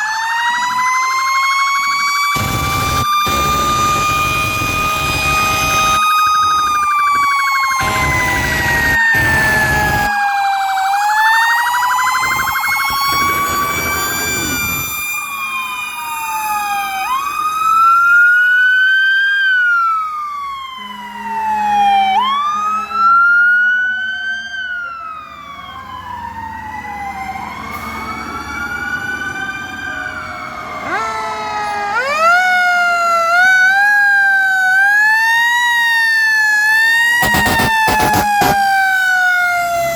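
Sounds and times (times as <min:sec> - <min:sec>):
fire truck sirens wailing: 0:00.0 - 0:39.9.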